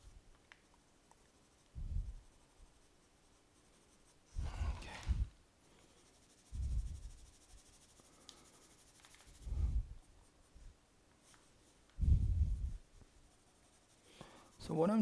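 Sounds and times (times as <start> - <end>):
pencil shading on paper: 0.0 - 15.0.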